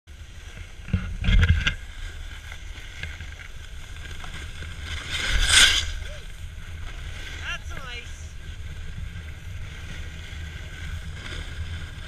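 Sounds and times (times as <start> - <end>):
snowboard scraping over snow: 0.1 - 12.0
wind rumble on microphone: 0.1 - 12.0.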